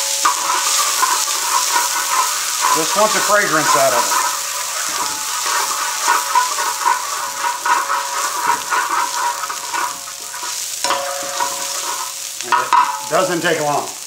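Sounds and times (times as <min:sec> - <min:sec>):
metal spoon scraping pan: 0:00.0 - 0:13.2
shallots sizzling in hot oil: 0:00.0 - 0:14.0.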